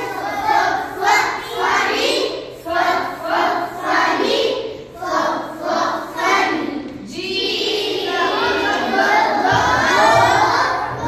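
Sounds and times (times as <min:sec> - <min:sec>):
children chanting together: 0:00.0 - 0:11.0.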